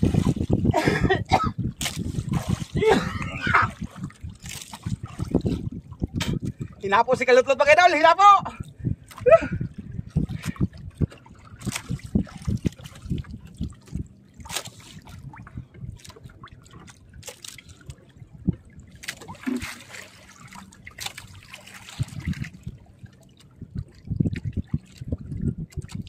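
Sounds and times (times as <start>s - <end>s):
sea water splashing: 0.0s - 26.0s.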